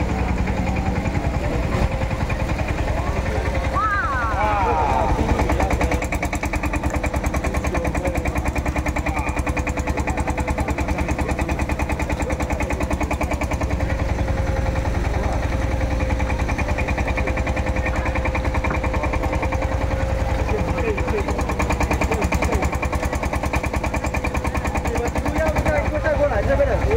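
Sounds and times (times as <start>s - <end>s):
boat engine thudding: 0.0s - 26.9s.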